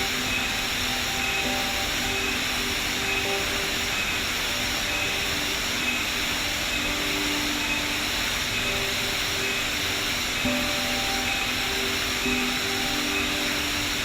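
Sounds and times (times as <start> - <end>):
soft background music: 0.0 - 14.0
waterfall rushing: 0.0 - 14.0.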